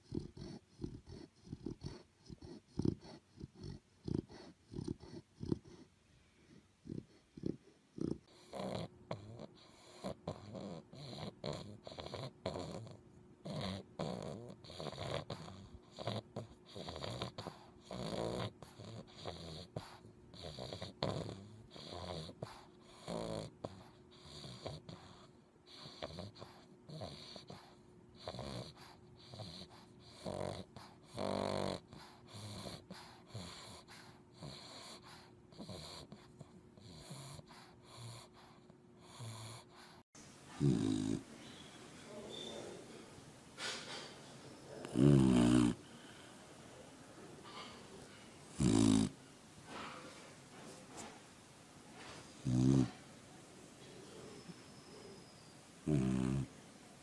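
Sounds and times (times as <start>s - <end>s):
puppy snoring: 0.0s - 46.3s, 47.4s - 50.2s, 52.0s - 53.2s, 53.8s - 57.0s.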